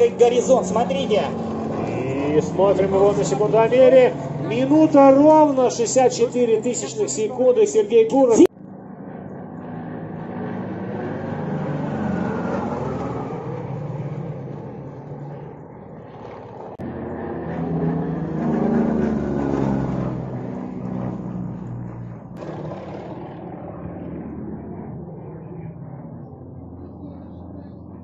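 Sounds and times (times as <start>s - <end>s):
propeller plane flying past: 0.0s - 28.0s.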